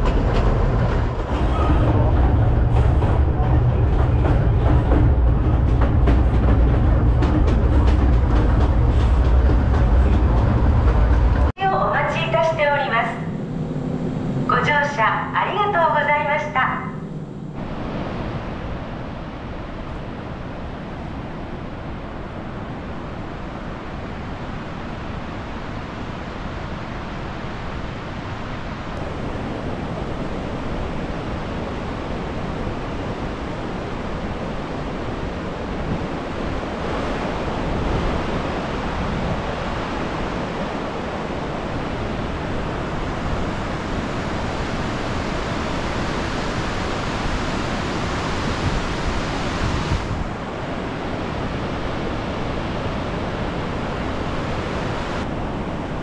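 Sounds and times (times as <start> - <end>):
wind buffeting microphone: 0.0 - 12.6, 17.1 - 56.0
train ride rushing noise: 0.0 - 56.0.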